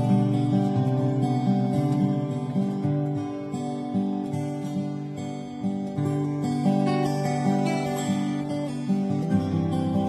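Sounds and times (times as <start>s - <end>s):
guitar music: 0.0s - 10.0s.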